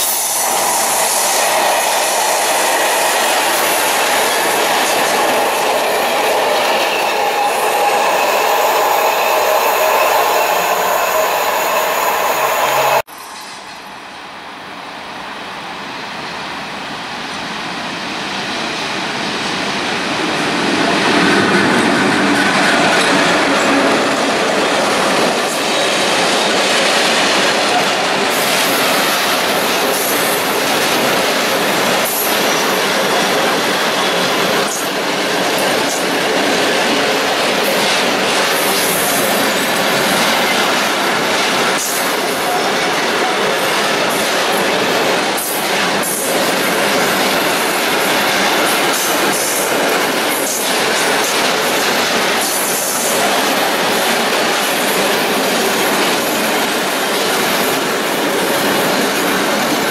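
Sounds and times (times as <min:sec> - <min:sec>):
electric locomotive approaching: 0:00.0 - 0:59.9.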